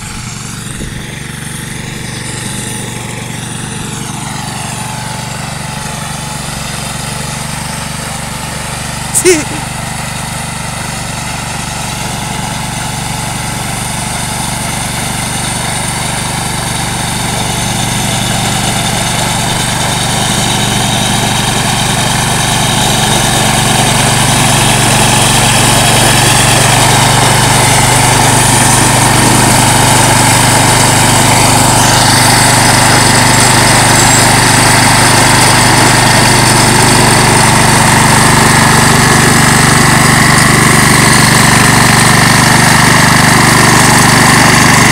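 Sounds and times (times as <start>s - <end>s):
snowblower throwing snow: 0.0s - 9.6s, 12.2s - 44.9s
garden tractor engine running: 0.0s - 44.9s.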